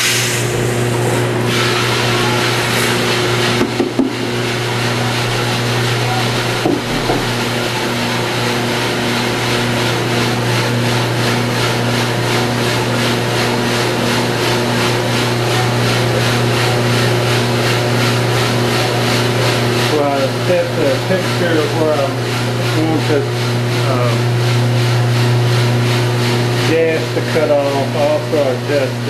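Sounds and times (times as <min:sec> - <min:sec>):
coffee roaster motor whir: 0:00.0 - 0:29.0
pulsing turning machinery: 0:00.0 - 0:29.0.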